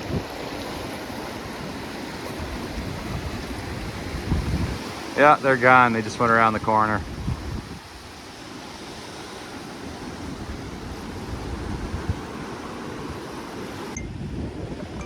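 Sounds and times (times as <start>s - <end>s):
fast-flowing river rushing: 0.0s - 15.0s
wind rumbling on microphone: 0.0s - 15.0s.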